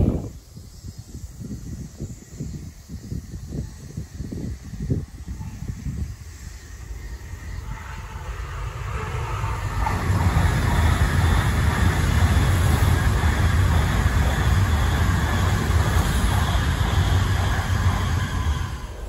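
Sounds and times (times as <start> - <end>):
train passing with rumble: 0.0 - 19.0.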